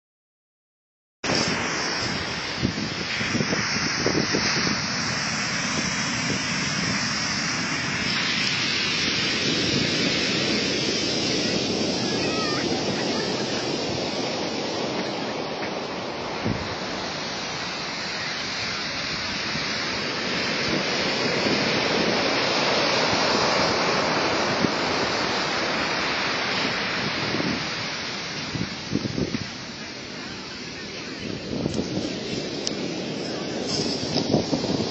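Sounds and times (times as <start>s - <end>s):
ocean surf washing up beach: 1.2s - 34.9s.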